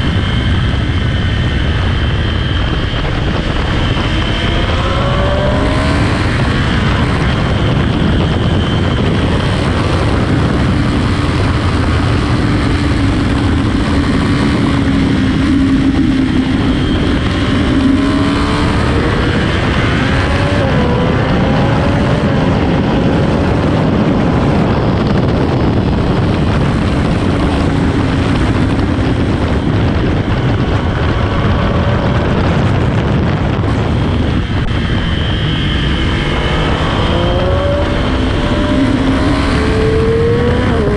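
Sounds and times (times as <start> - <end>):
motorcycle engine at speed: 0.0 - 40.9
wind rush: 0.0 - 40.9.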